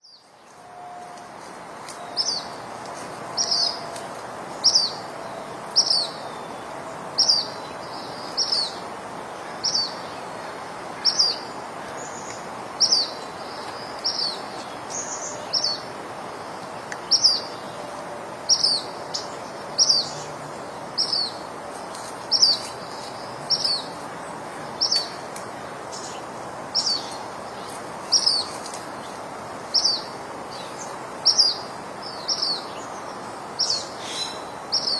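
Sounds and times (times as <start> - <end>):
woodland ambience hiss: 0.0 - 34.9
songbird calling: 1.9 - 2.6, 3.4 - 15.9, 16.9 - 17.8, 18.5 - 20.4, 21.0 - 21.5, 22.2 - 34.9.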